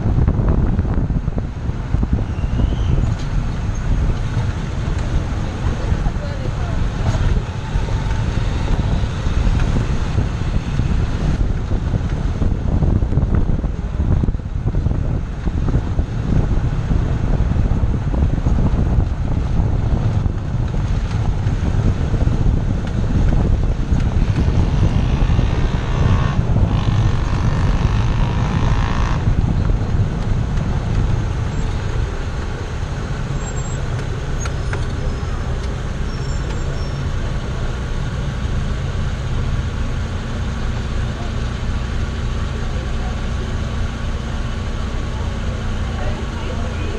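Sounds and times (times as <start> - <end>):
car engine running: 3.4 - 46.9.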